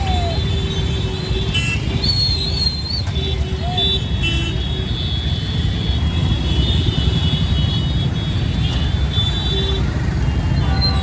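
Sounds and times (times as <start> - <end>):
heavy traffic rumble: 0.0 - 11.0.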